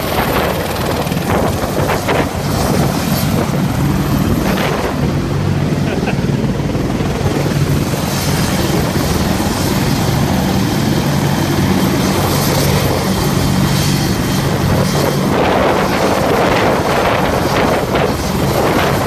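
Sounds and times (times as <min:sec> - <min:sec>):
helicopter rotor blades beating: 0:00.0 - 0:19.0
turbine engine whine: 0:00.0 - 0:19.0
wind gusts on microphone: 0:00.0 - 0:19.0.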